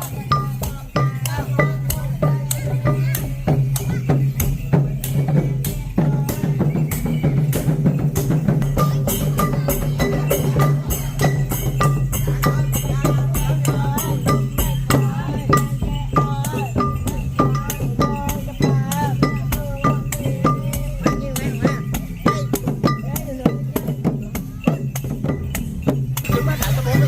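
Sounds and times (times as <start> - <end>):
fast dense drumming: 0.0 - 27.0.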